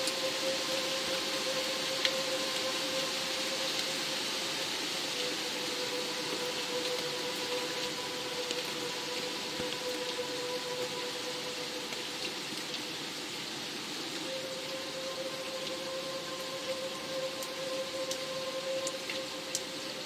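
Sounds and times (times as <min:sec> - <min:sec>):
ambient music held tone: 0:00.0 - 0:20.0
steady rain hiss: 0:00.0 - 0:20.0.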